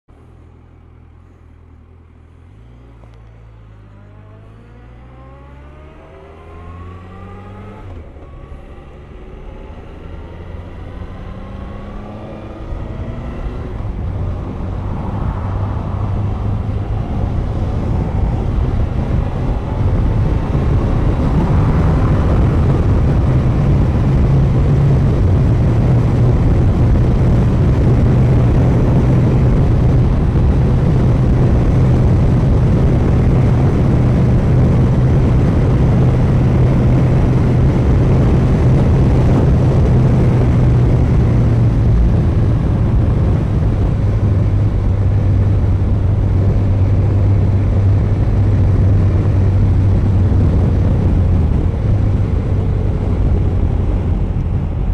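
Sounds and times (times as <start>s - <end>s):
motorcycle engine accelerating: 1.8s - 54.9s
wind noise on microphone: 6.2s - 54.9s.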